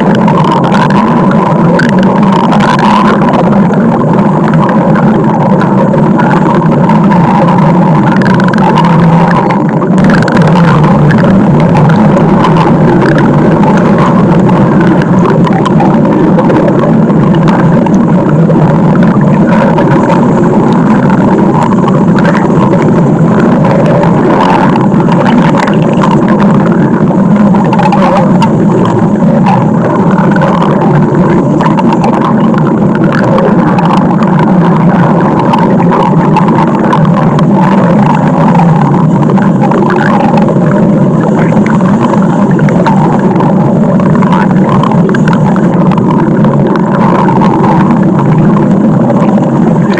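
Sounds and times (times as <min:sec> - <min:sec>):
stomach growling: 0:00.0 - 0:49.9.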